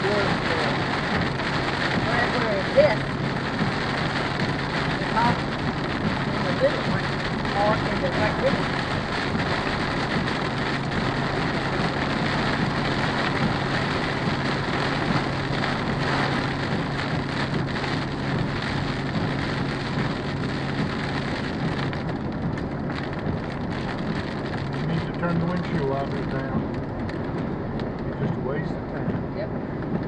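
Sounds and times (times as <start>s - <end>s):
engine and road noise: 0.0s - 30.0s
heavy rain on car windshield: 0.0s - 30.0s.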